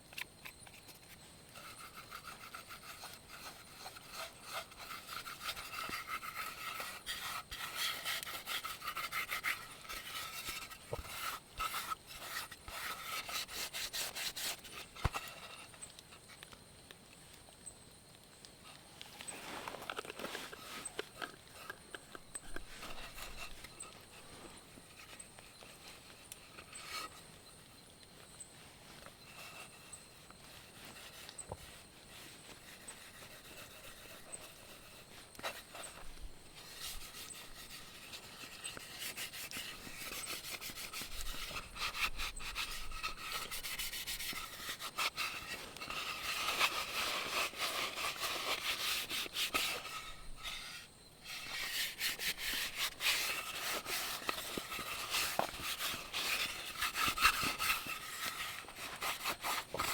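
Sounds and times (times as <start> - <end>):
scraping and rubbing on wood: 0.1 - 16.4, 18.7 - 27.3, 28.6 - 59.9.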